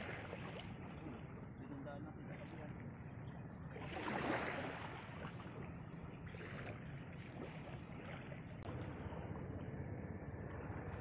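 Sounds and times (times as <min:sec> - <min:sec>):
water lapping: 0:00.0 - 0:09.8.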